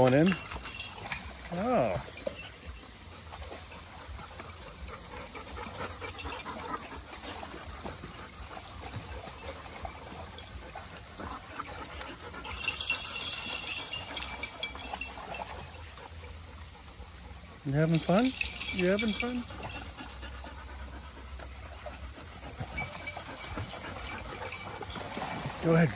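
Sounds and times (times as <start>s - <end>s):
splashing in water: 0.0s - 20.0s, 21.5s - 25.9s
dogs vocalizing: 0.0s - 25.9s.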